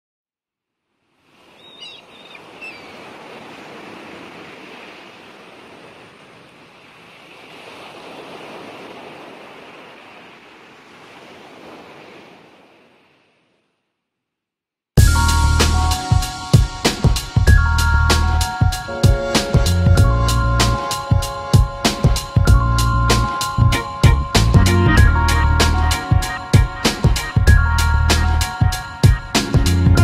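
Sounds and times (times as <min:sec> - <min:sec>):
ocean surf washing in: 0:01.2 - 0:13.5, 0:15.0 - 0:17.5, 0:18.1 - 0:30.0.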